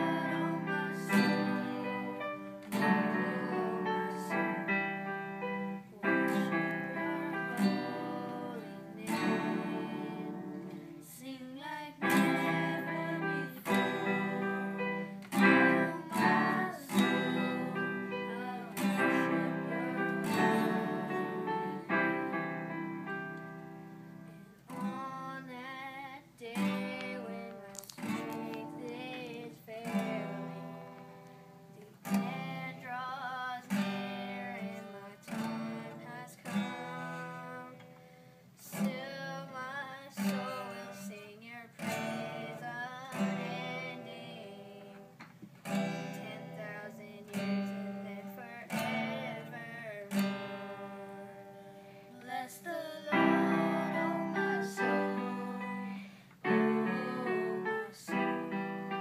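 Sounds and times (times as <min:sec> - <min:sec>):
young person singing: 0:00.0 - 0:23.3, 0:24.4 - 0:59.0
acoustic guitar strumming: 0:00.0 - 0:59.0.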